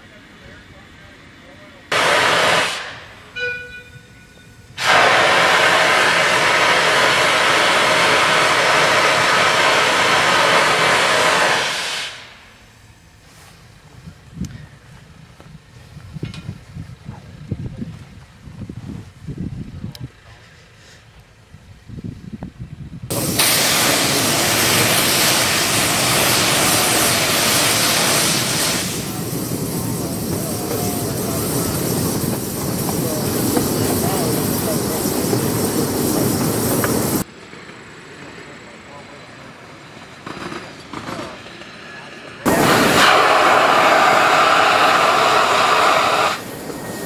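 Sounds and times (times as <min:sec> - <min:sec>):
locomotive venting steam hiss: 0:00.0 - 0:03.5, 0:04.6 - 0:17.6, 0:23.1 - 0:47.0.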